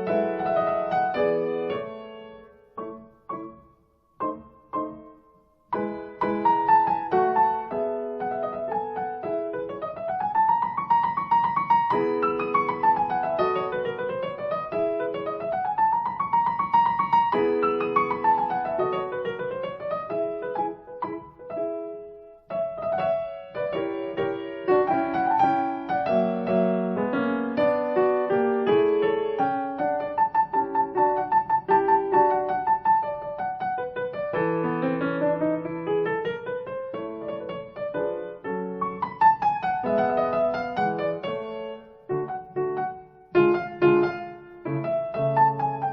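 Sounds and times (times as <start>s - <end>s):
piano music with sweeping runs: 0.0s - 45.9s.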